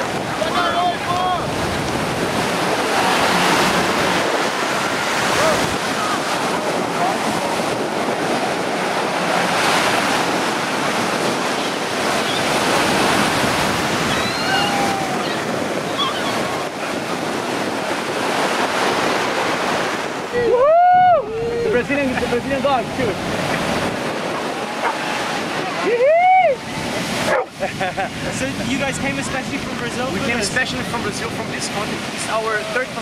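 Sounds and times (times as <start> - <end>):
ocean surf breaking: 0.0 - 33.0
wind buffeting microphone: 0.0 - 33.0.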